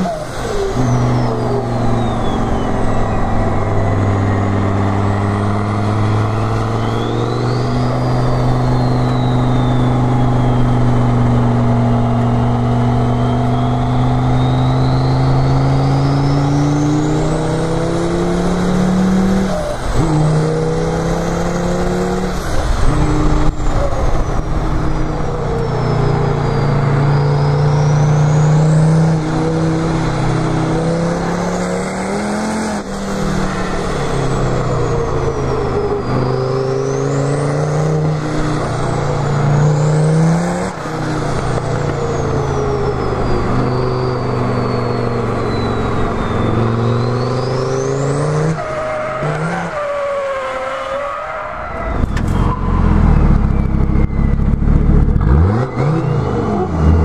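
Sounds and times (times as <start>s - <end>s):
diesel engine revving: 0.0s - 57.0s
turbo whistle: 0.0s - 57.0s.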